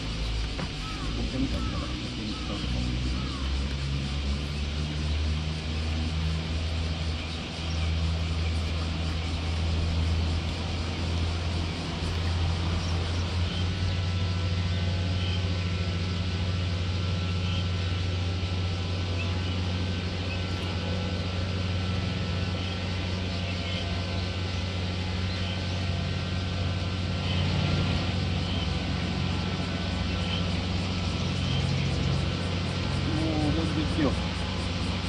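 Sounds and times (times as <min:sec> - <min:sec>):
motor humming with whine: 0:00.0 - 0:35.0.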